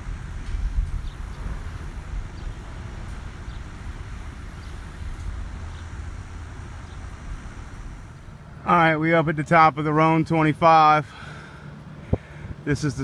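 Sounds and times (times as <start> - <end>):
low uneven rumble: 0.0 - 10.5.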